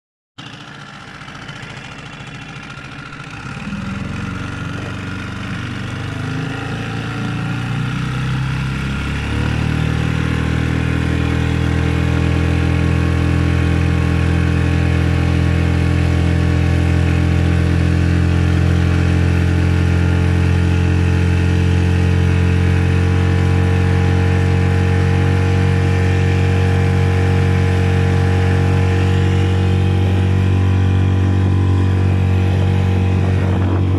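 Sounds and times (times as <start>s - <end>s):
outboard motor running: 0.4s - 33.9s.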